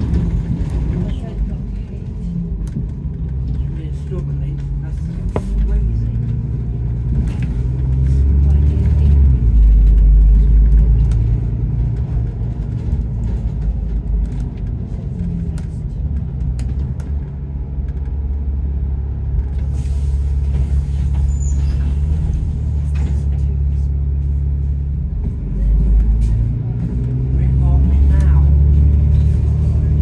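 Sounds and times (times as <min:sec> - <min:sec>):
bus engine rumbling: 0:00.0 - 0:30.0.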